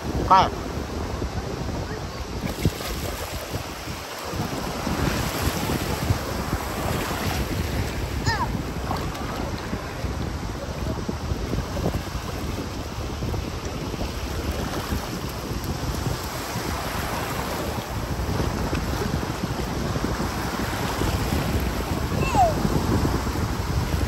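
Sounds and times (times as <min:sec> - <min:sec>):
ocean surf washing onto beach: 0:00.0 - 0:24.0
wind buffeting microphone: 0:00.0 - 0:24.0.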